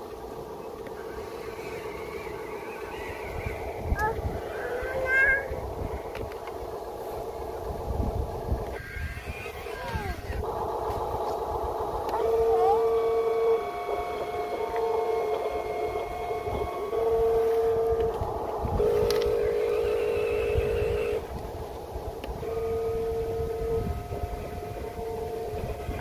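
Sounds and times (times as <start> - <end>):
electric motors whining: 0.0 - 26.0
low rumble: 0.1 - 26.0.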